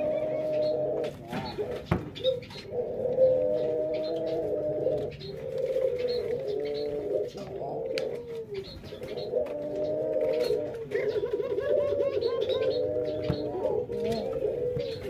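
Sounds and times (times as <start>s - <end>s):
doves cooing: 0.0s - 15.0s
small birds chirping: 0.0s - 15.0s.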